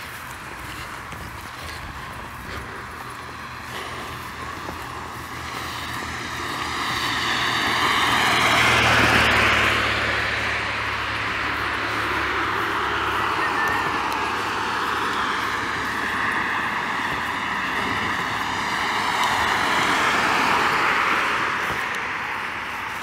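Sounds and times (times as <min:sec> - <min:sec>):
aircraft passing overhead: 0:00.0 - 0:23.0.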